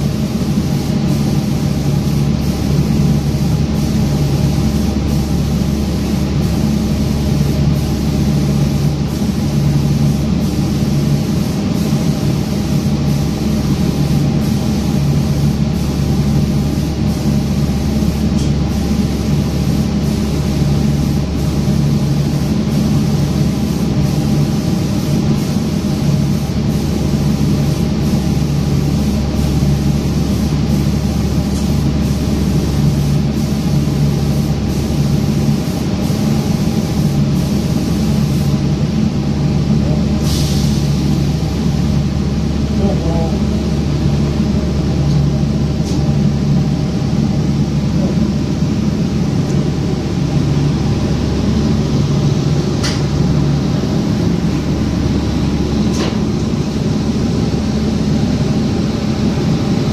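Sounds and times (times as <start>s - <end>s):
low moving tone of spray gun: 0.0s - 59.9s
spraying machine mechanical hum: 0.0s - 59.9s.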